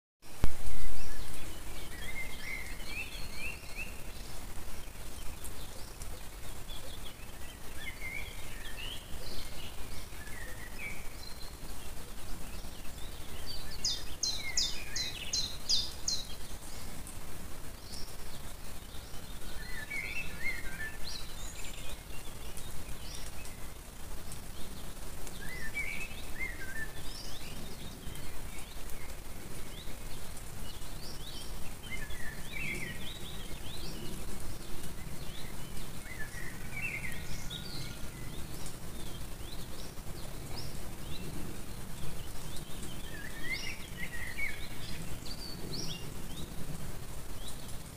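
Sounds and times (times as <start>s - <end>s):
low background hiss: 0.2s - 47.9s
songbird chirping: 0.3s - 47.9s.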